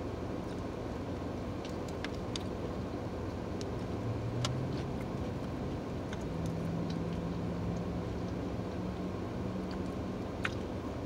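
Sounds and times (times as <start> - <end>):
low hum inside car: 0.0 - 11.0
person chewing: 0.4 - 10.8.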